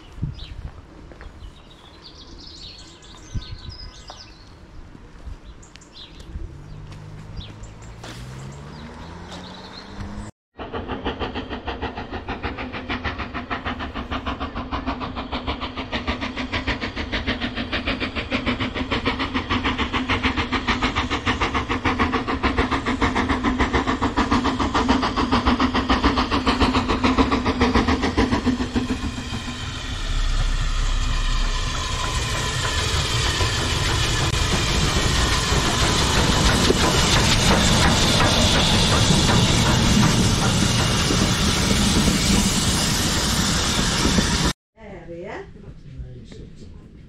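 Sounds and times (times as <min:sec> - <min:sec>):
train running: 0:00.0 - 0:44.6.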